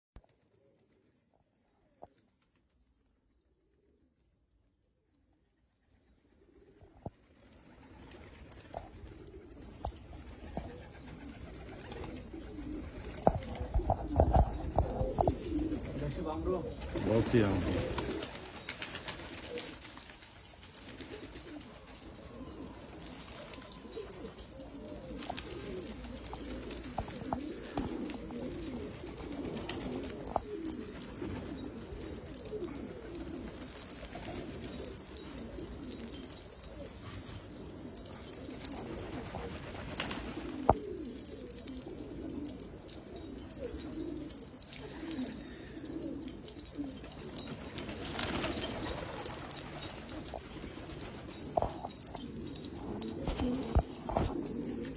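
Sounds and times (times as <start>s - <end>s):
pigeons cooing: 6.4s - 54.9s.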